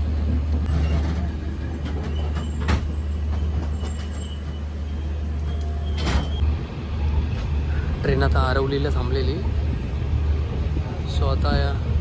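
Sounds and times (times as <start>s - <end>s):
train rumble inside coach: 0.0s - 12.0s.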